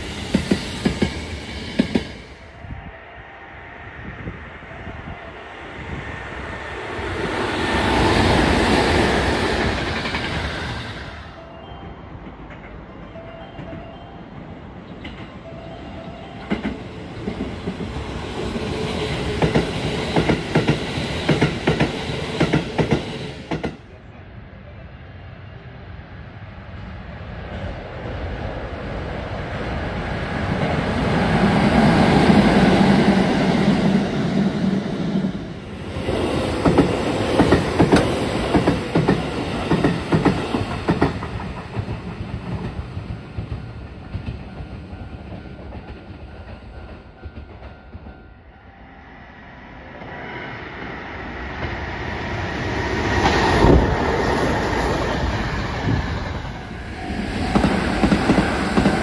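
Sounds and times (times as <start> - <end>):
electric trains passing: 0.0 - 59.0.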